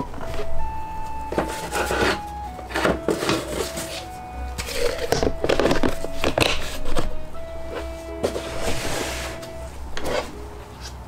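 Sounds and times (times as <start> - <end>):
light background music: 0.0 - 11.0
rustling and knocking handling noises: 0.0 - 11.0.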